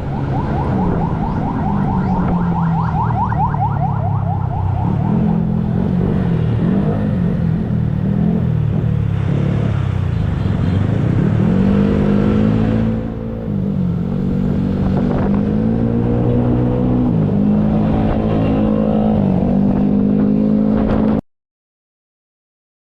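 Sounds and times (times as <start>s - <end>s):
fire engine accelerating through gears: 0.0s - 10.1s, 10.8s - 21.2s.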